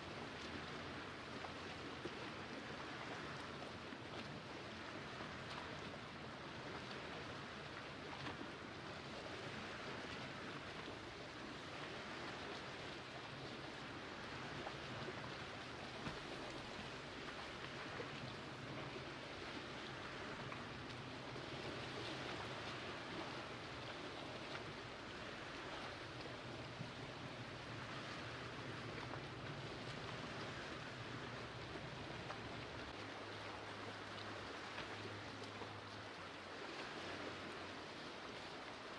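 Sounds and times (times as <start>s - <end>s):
small waves lapping on boulders: 0.0s - 38.9s.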